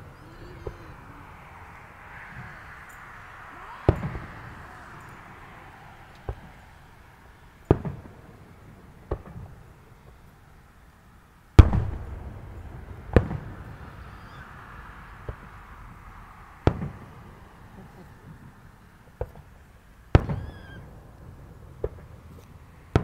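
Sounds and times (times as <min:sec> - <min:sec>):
firework shells booming: 0:00.0 - 0:10.2, 0:11.6 - 0:14.4, 0:16.6 - 0:18.4, 0:19.1 - 0:23.0.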